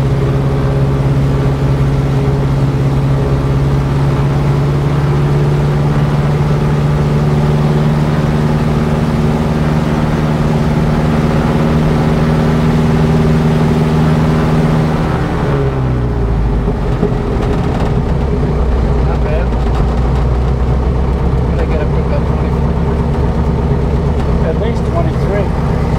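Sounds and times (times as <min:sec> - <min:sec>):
propeller aircraft engine running: 0:00.0 - 0:25.9.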